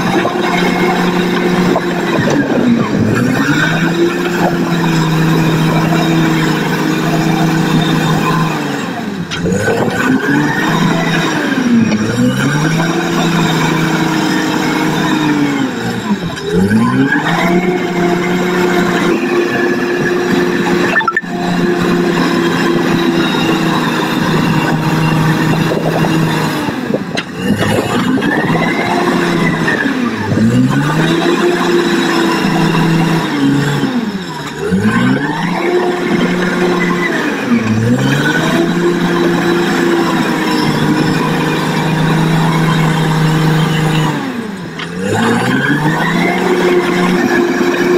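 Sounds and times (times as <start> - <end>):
blade pushing soil: 0.0 - 47.9
bulldozer diesel engine under load: 0.0 - 47.9.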